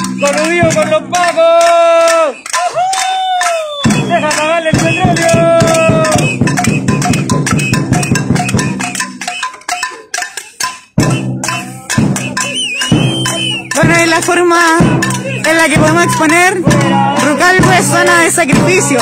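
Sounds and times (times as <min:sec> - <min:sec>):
people shouting: 0:00.0 - 0:08.7, 0:11.2 - 0:19.0
fast hand percussion beating: 0:00.0 - 0:19.0.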